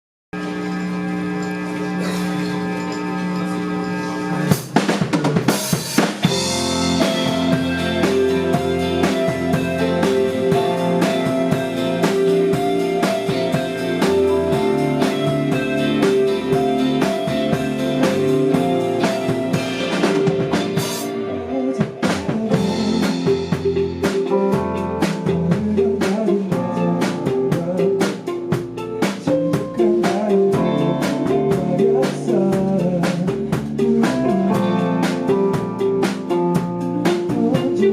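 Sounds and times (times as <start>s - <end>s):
rock band playing: 0.4s - 37.9s.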